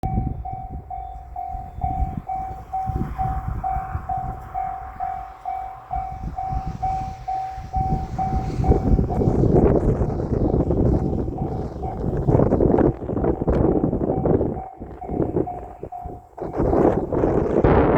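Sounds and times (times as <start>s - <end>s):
level-crossing warning bell: 0.0s - 17.5s
low rumble: 0.0s - 17.9s.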